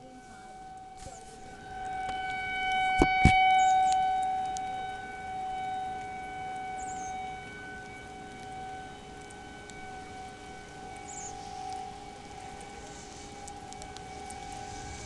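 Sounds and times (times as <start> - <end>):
rotating warning siren: 0.0 - 15.0.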